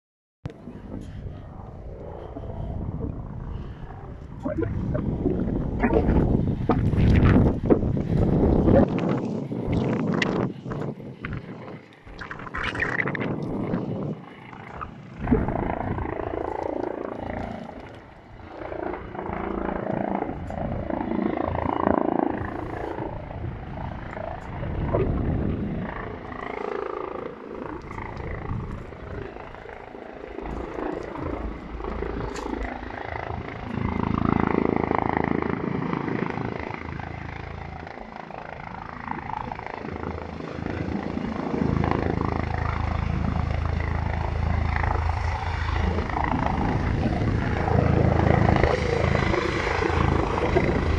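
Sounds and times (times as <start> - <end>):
helicopter rotor and engine: 0.5 - 50.9.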